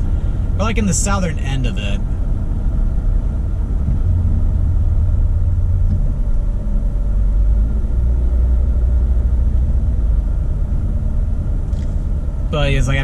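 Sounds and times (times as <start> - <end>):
car interior driving rumble: 0.0 - 13.0.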